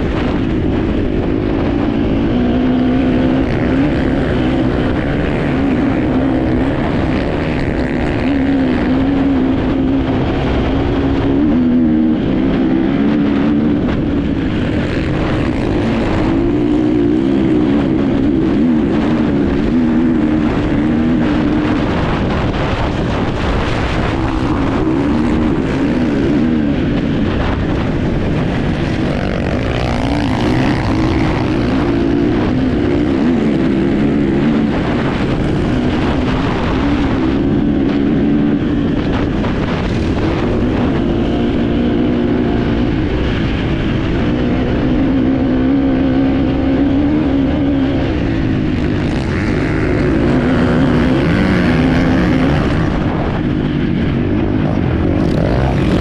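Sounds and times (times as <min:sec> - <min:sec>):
motorcycle engine revving: 0:00.0 - 0:56.0
wind on microphone: 0:00.0 - 0:56.0.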